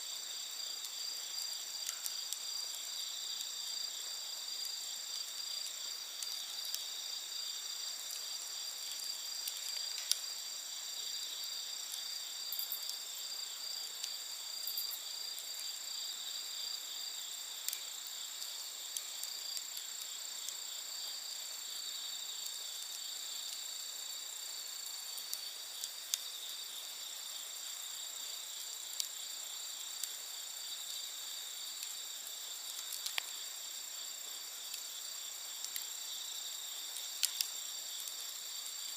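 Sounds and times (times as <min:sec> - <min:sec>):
campfire crackling: 0:00.0 - 0:38.9
night insects chirping: 0:00.0 - 0:38.9.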